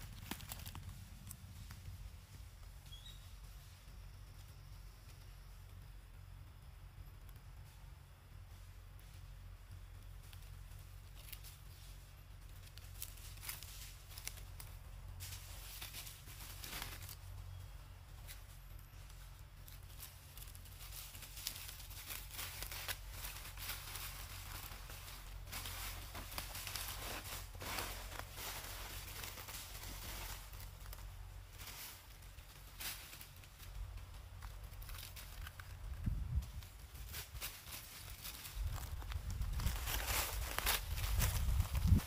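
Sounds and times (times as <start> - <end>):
leaves and plastic rustling: 0.0 - 3.8, 10.2 - 42.0
low steady rumble: 0.0 - 42.0.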